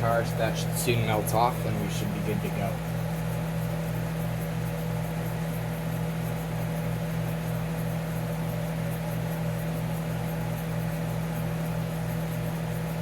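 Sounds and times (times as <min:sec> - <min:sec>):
dehumidifier humming and throbbing: 0:00.0 - 0:13.0.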